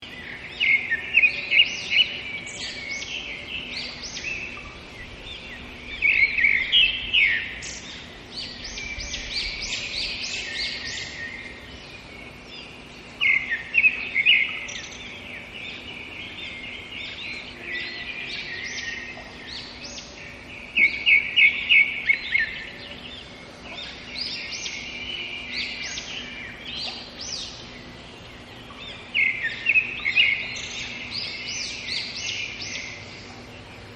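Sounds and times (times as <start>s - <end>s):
songbirds chirping and singing: 0.0s - 33.9s.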